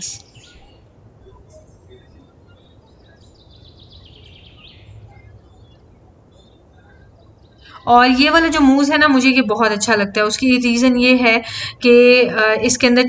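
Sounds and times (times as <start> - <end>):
faint high chirping: 0.0 - 11.8.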